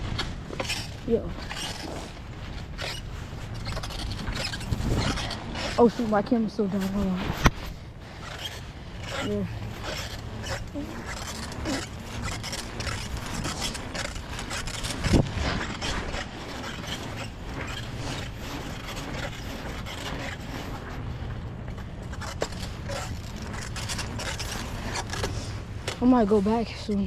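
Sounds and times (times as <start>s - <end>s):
fabric rubbing against camera: 0.0s - 27.0s.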